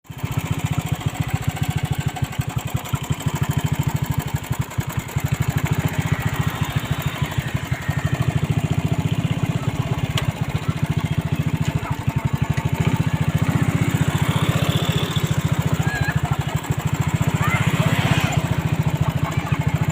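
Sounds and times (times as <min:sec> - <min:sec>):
small engine idling: 0:00.1 - 0:19.9.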